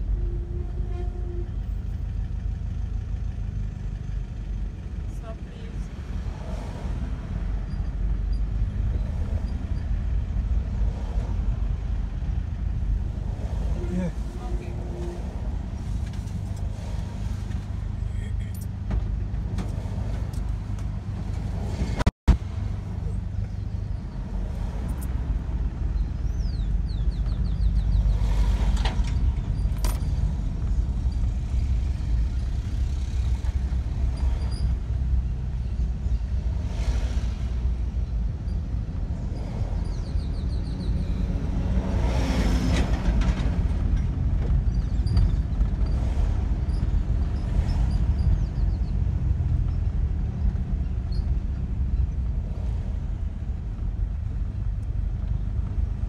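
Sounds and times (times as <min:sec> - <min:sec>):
car engine and road rumble: 0:00.0 - 0:56.0
vehicles passing: 0:00.0 - 0:56.0.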